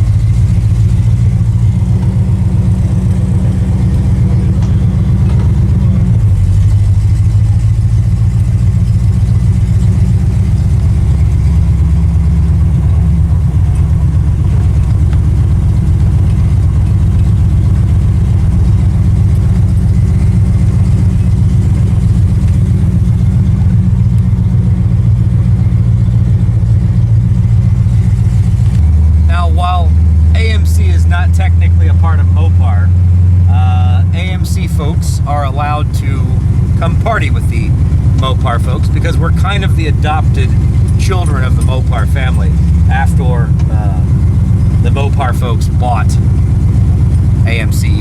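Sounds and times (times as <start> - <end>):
car engine rumbling: 0.0 - 48.0.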